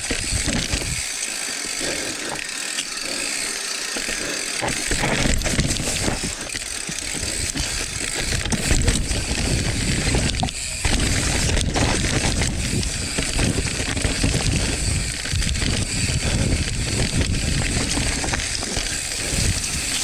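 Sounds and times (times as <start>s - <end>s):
wind buffeting microphone: 0.0s - 1.1s, 4.9s - 20.0s
bike clattering over bumps: 0.0s - 20.0s
bike tyres on loose dirt: 0.0s - 20.0s.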